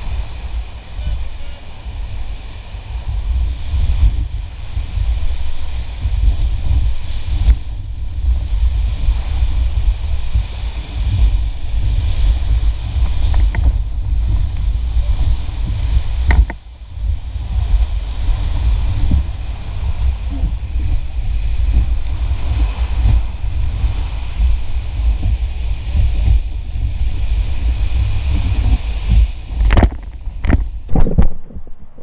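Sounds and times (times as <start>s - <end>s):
whitewater rushing: 0.0s - 31.3s.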